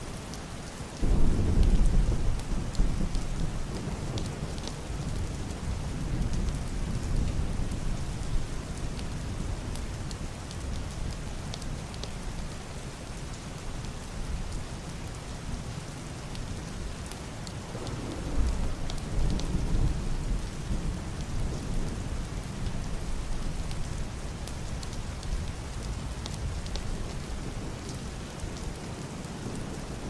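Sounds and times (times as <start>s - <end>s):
heavy rain on roof and window: 0.0s - 30.0s.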